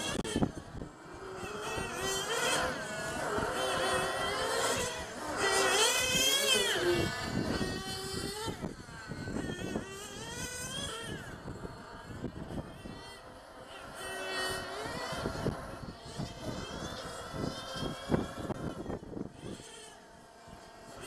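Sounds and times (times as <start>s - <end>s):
small nitro engines revving: 0.0s - 21.0s.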